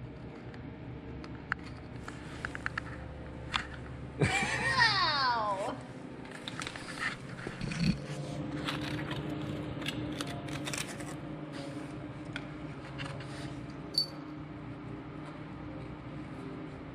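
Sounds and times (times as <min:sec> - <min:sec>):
low hum: 0:00.0 - 0:16.9.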